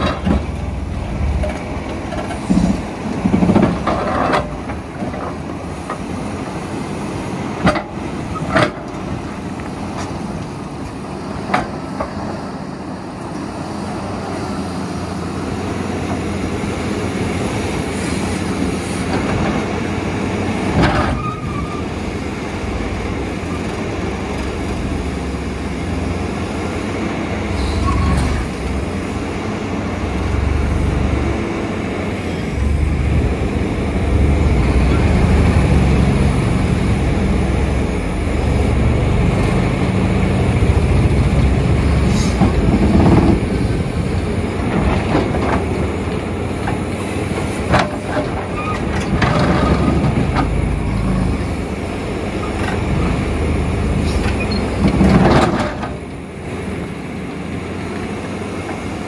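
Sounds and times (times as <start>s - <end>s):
excavator running under load: 0.0s - 59.0s.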